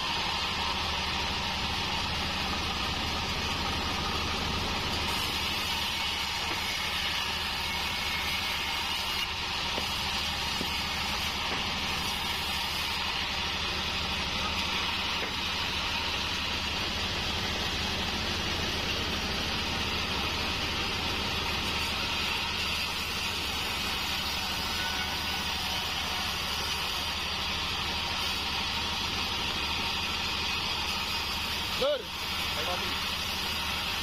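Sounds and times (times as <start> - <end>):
band saw sawing wood: 0.0 - 34.0.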